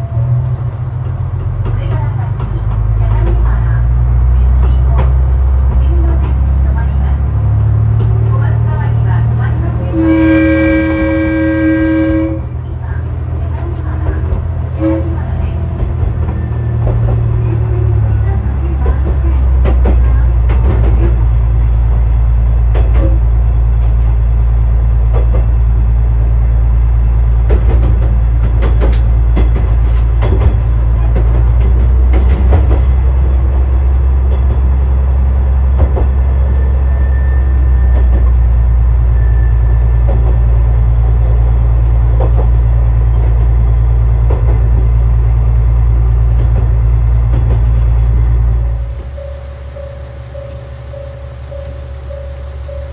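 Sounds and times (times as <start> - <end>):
wheels clicking on track: 0.0 - 9.9, 12.8 - 52.9
train low drone: 0.0 - 52.9.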